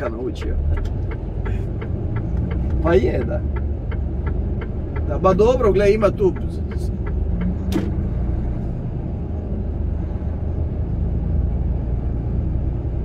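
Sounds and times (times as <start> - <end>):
truck rumble from inside cab: 0.0 - 13.0.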